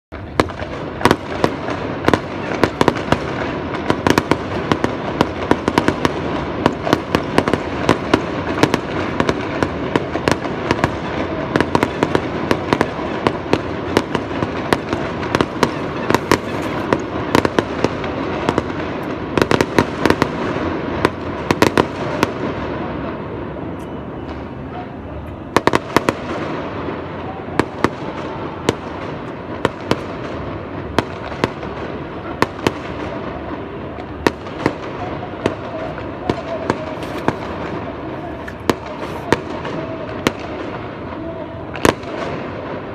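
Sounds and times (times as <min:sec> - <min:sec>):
fireworks crackling and banging: 0:00.1 - 0:42.9.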